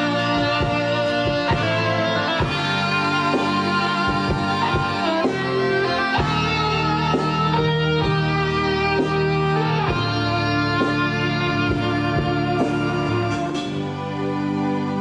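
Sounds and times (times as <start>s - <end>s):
bass guitar: 0.0s - 15.0s
electric guitar plucked notes: 0.0s - 15.0s
sustained chords: 0.0s - 15.0s.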